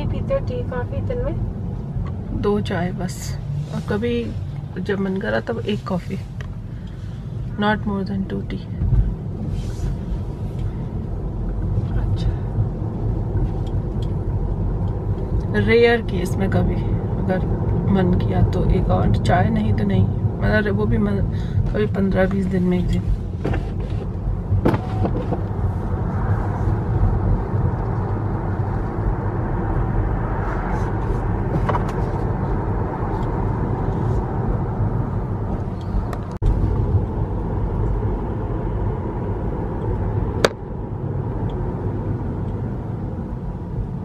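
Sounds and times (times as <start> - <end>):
engine and tyre rumble: 0.0 - 44.0.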